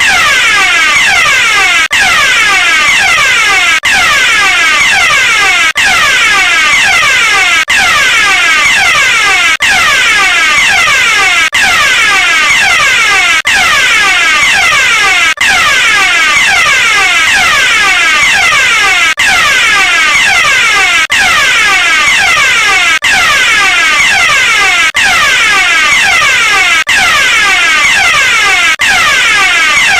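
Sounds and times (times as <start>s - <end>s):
fire alarm sweeping tone: 0.0s - 29.9s.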